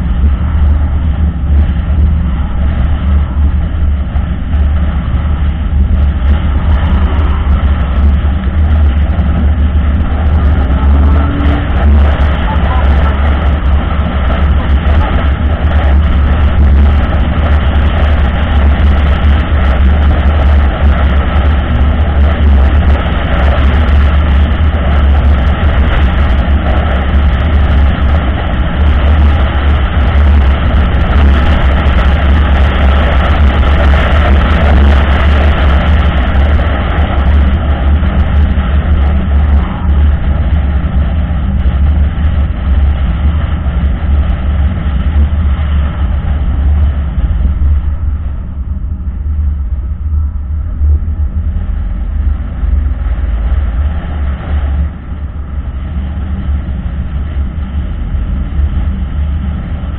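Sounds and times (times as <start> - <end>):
car engine drone: 0.0 - 59.9.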